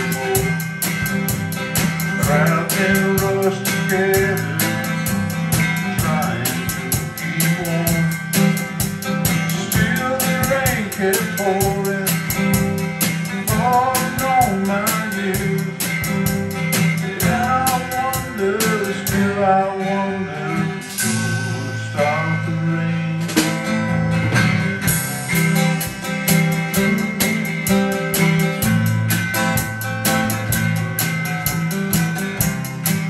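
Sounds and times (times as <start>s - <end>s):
drum kit beat: 0.0s - 19.6s, 23.2s - 33.0s
strummed acoustic guitars: 0.0s - 33.0s.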